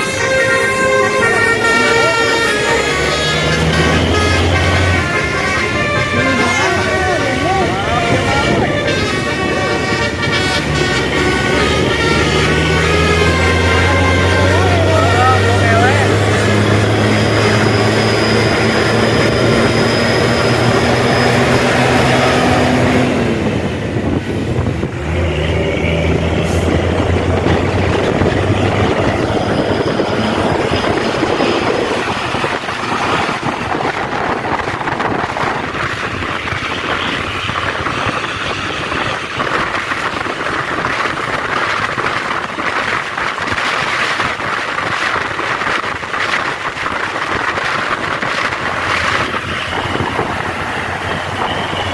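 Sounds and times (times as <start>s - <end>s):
diesel engine drone: 0.0s - 51.9s
road and wind noise: 0.0s - 51.9s.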